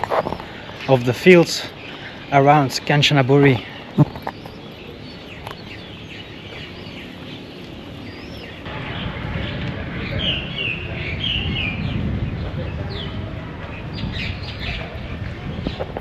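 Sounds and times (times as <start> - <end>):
birds chirping: 0.0 - 16.0
low rumbling noise: 0.0 - 16.0.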